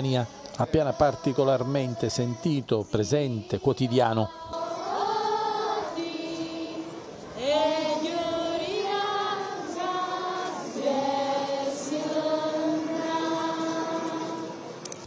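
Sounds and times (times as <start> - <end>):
women singing together: 0.2 - 14.8.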